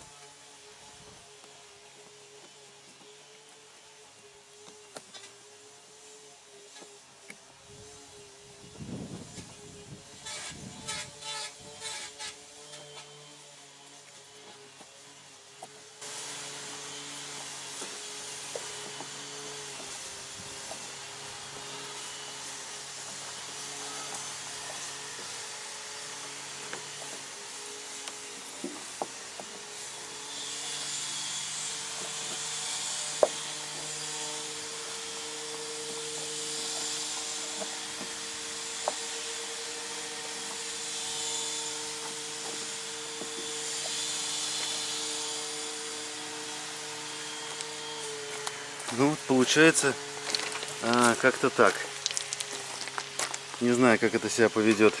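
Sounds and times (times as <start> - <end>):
steady scraping hiss: 0.0 - 55.0.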